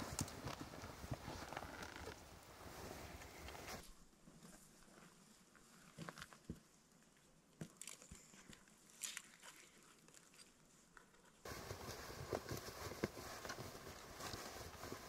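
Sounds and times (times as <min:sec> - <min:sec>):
faint clicks and rustles: 0:00.0 - 0:15.0.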